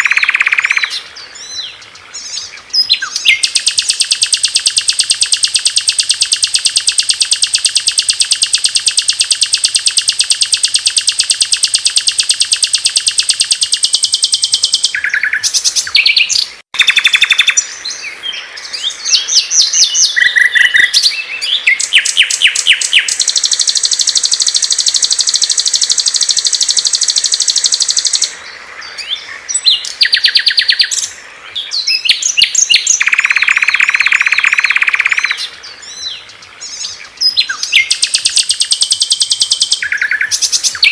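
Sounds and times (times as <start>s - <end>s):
lower dense bird trill: 0.0s - 40.9s
songbird chirps and phrases: 0.0s - 40.9s
songbird high trill: 0.0s - 40.9s.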